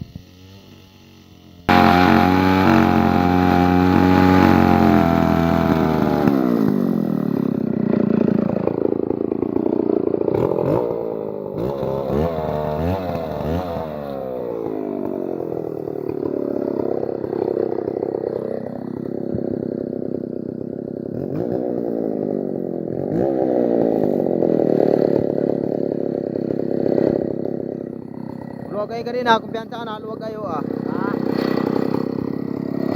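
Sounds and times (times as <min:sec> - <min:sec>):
chainsaw engine revving: 0:00.0 - 0:32.9.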